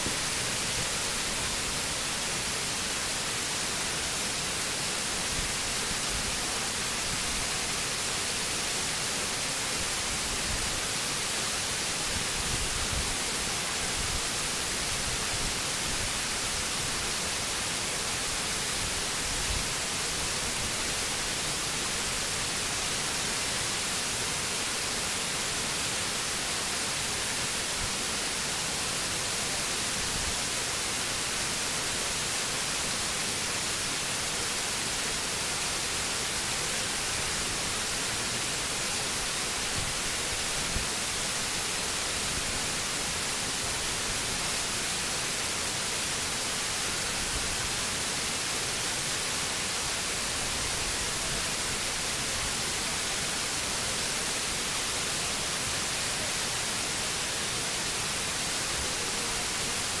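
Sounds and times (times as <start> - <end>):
waterfall rushing into pool: 0.0 - 60.0.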